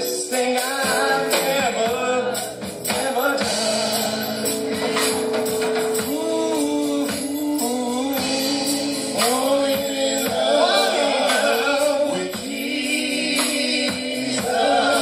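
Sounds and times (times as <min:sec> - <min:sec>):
live gospel band: 0:00.0 - 0:15.0.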